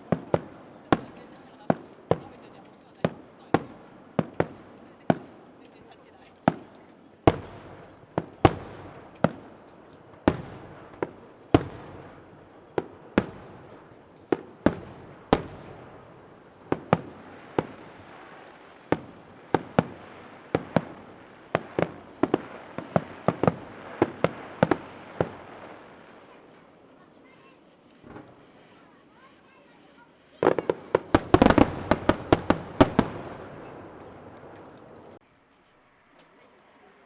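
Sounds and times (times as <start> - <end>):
firework shells bursting: 0.0 - 35.2.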